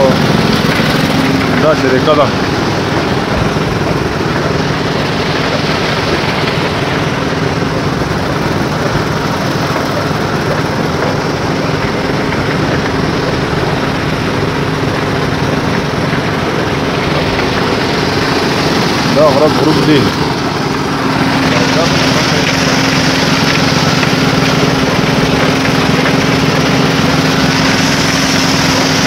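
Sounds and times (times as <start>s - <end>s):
truck engine drone: 0.0s - 29.0s.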